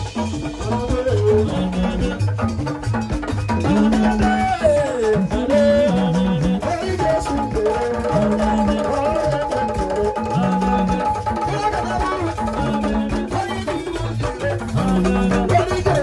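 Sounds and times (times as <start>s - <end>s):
drums and hand percussion: 0.0s - 16.0s
live band music: 0.0s - 16.0s.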